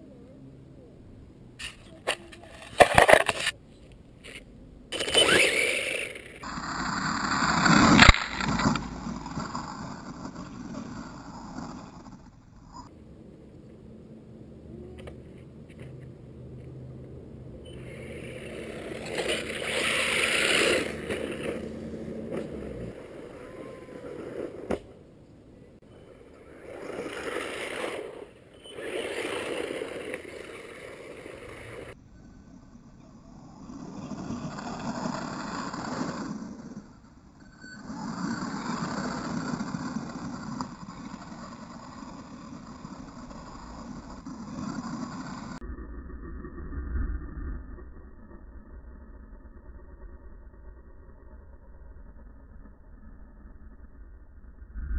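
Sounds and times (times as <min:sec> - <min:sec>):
rc car motor passing: 0:01.6 - 0:03.6, 0:04.2 - 0:12.9, 0:14.4 - 0:54.9.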